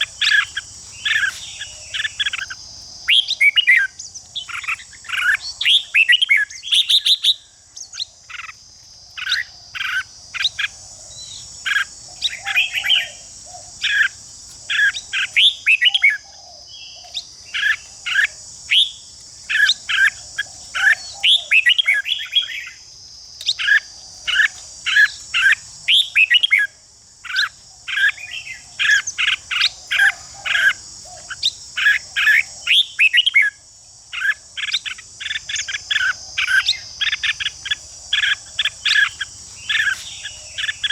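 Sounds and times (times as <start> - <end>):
bird singing rapid song phrases: 0.0 - 8.6, 9.2 - 33.6, 34.2 - 40.9.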